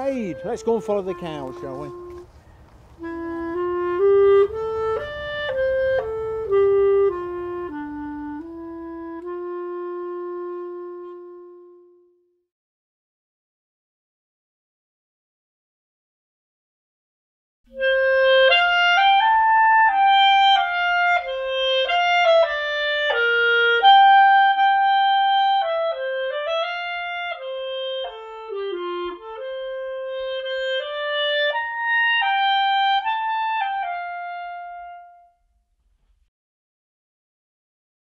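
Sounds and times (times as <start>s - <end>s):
solo instrumental melody: 0.0s - 12.5s, 17.7s - 35.9s.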